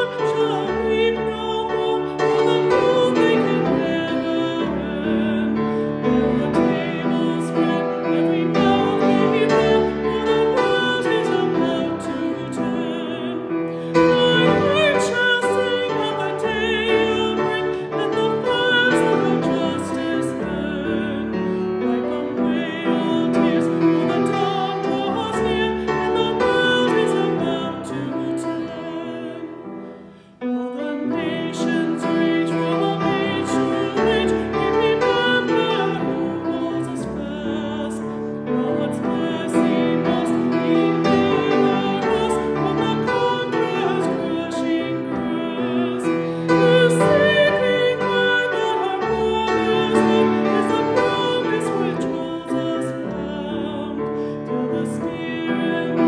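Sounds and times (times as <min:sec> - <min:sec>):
classical solo singing with vibrato: 0:00.0 - 0:56.0
piano: 0:00.0 - 0:56.0.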